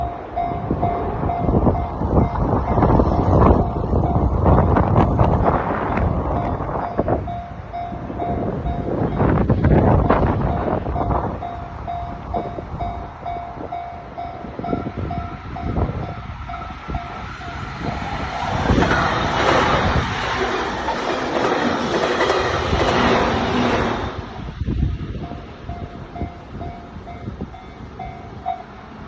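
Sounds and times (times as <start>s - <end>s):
level crossing warning bell: 0.0s - 29.0s
train rushing past: 0.0s - 29.0s
train wheels clacking: 0.0s - 29.0s.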